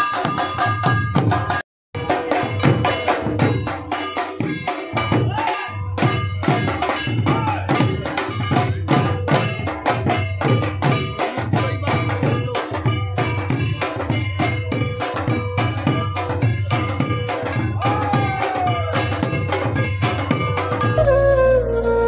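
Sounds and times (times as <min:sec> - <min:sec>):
barrel drum beaten in rhythm: 0:00.0 - 0:22.0.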